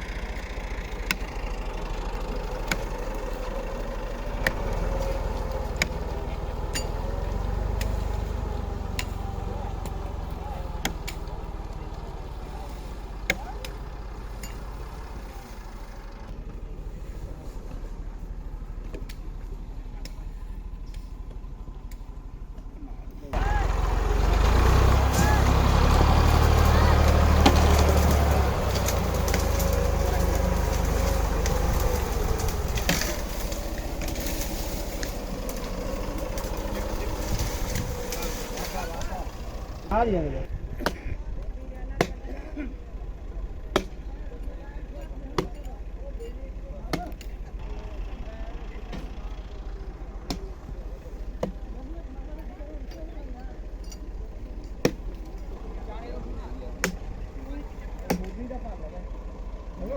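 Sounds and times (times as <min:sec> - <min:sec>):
large engine idling: 0:00.0 - 0:59.9.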